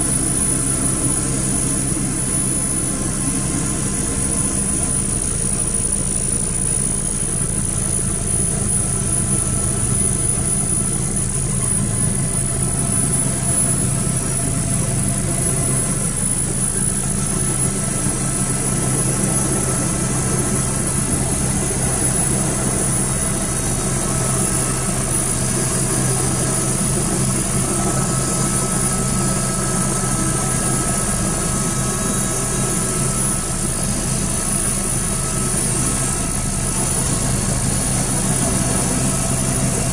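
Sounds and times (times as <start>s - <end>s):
helicopter rotor drone: 0.0s - 39.9s
high turbine whine: 0.0s - 39.9s.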